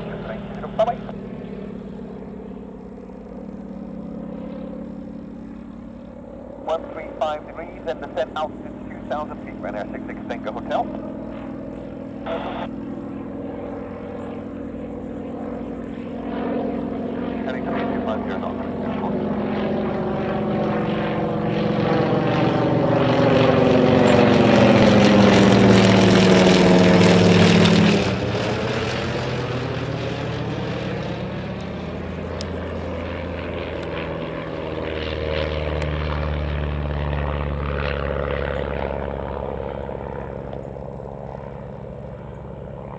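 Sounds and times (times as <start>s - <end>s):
plane radial engine flying over: 0.0s - 42.9s
propeller engine drone: 0.0s - 42.9s.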